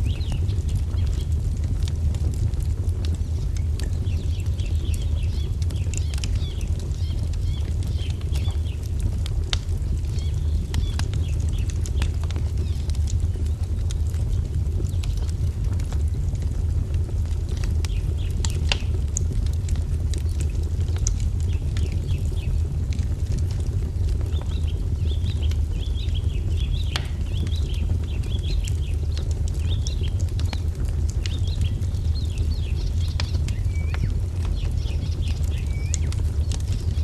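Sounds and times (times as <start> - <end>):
small birds chirping: 0.0 - 2.5, 3.2 - 15.4, 17.5 - 19.4, 20.1 - 23.2, 23.8 - 37.0
wood fire crackling and popping: 0.0 - 37.0.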